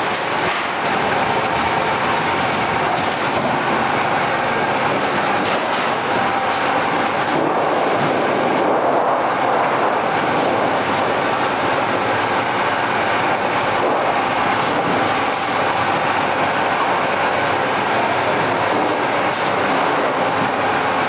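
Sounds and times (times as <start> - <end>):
machine metallic clatter: 0.0 - 21.0.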